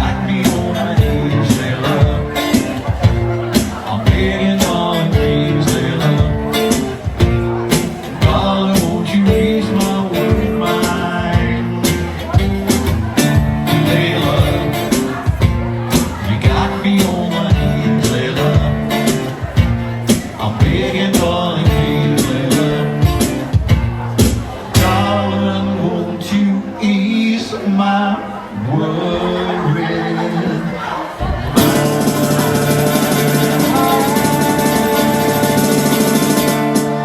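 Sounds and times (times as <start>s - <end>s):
person singing: 0.0s - 19.5s, 20.1s - 23.6s, 24.7s - 37.0s
drum beat of sharp hits: 0.0s - 25.0s, 31.2s - 37.0s
guitar: 0.0s - 37.0s.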